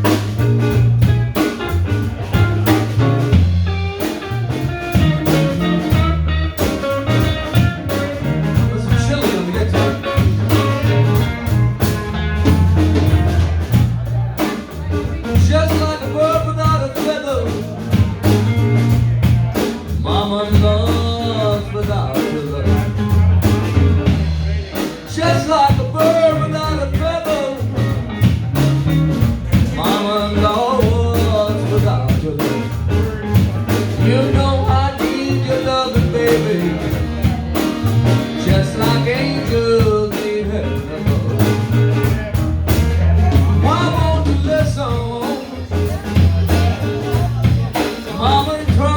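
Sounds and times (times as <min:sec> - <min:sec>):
bending lead melody: 0:00.0 - 0:48.9
blues band playing: 0:00.0 - 0:48.9.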